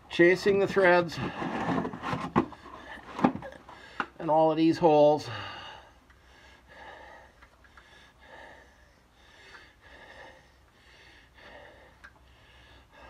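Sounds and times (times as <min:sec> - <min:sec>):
man breathing heavily: 0:01.0 - 0:04.2, 0:05.0 - 0:13.0.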